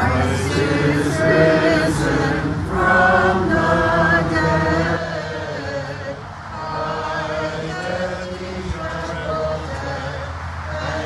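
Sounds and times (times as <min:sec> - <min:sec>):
voices singing chant together: 0:00.0 - 0:11.0.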